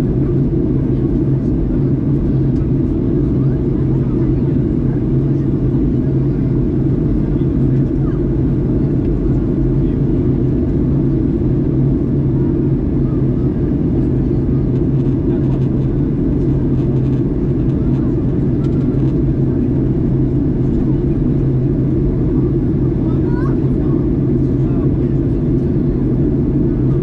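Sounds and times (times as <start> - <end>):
airplane cabin drone: 0.0 - 27.0.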